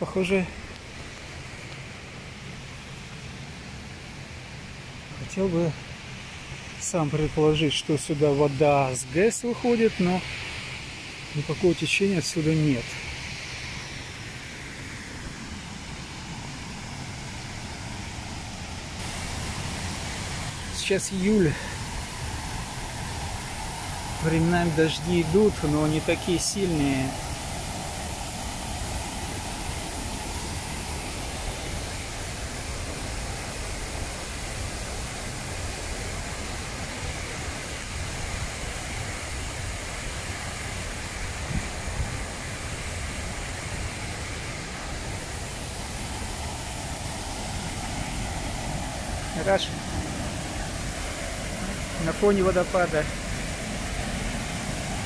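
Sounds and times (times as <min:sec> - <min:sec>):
distant waterfall rushing: 0:00.0 - 0:55.0.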